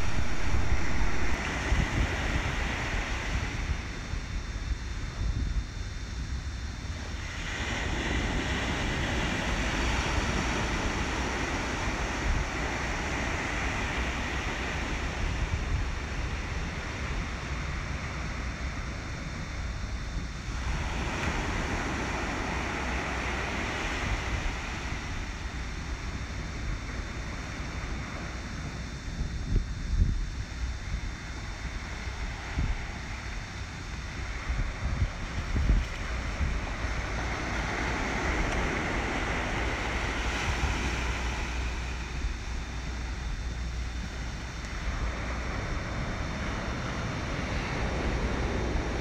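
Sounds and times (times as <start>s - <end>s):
surf rumbling: 0.0s - 49.0s
wind: 0.0s - 49.0s.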